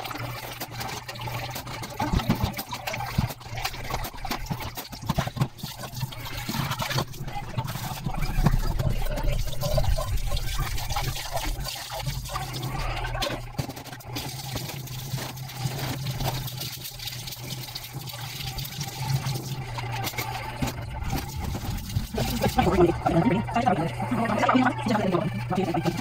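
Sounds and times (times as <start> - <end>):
tap water running into sink: 0.0 - 26.0.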